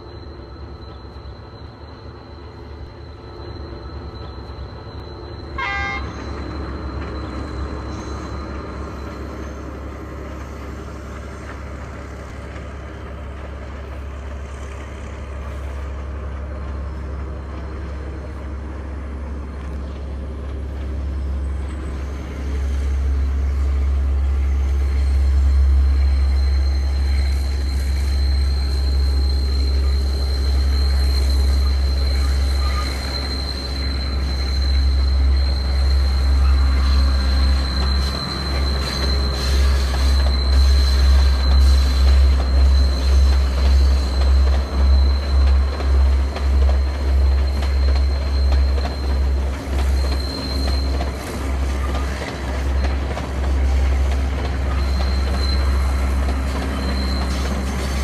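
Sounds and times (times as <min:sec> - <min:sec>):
diesel train engine rumble: 0:00.0 - 0:58.0
train wheel squeal: 0:00.0 - 0:58.0.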